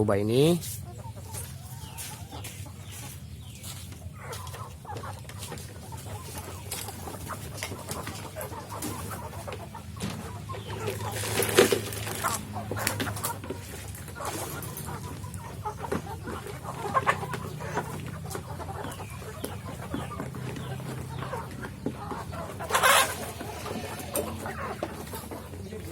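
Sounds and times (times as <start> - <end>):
hens clucking: 0.0 - 25.9.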